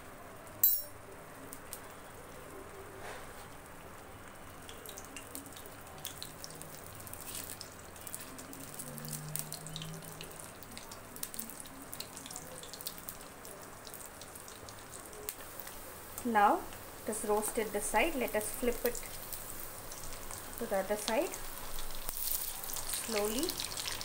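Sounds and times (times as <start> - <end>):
oil sizzling with crackles and pops: 0.0 - 24.0.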